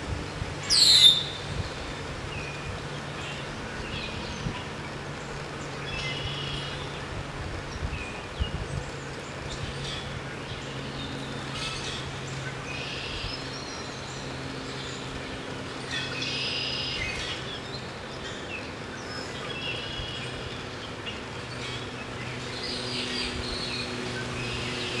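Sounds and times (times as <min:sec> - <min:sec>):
birds singing and chirping: 0:00.3 - 0:25.0.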